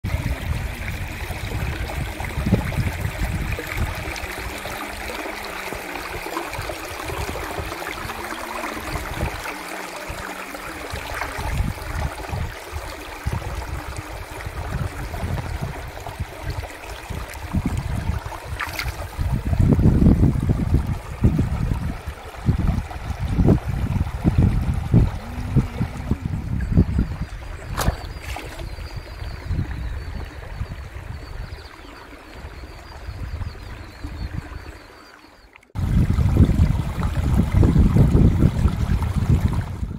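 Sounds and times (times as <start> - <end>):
wind rumble on microphone: 0.0 - 34.8, 35.8 - 39.9
water trickling over rocks: 0.1 - 39.9.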